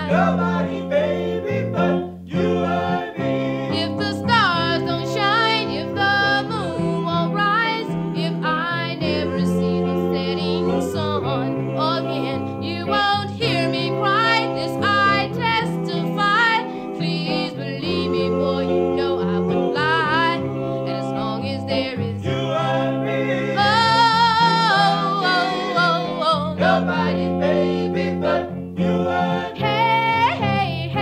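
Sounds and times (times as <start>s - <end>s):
person singing with vibrato: 0.0s - 22.2s, 23.6s - 31.0s
sustained instrumental accompaniment: 0.0s - 31.0s.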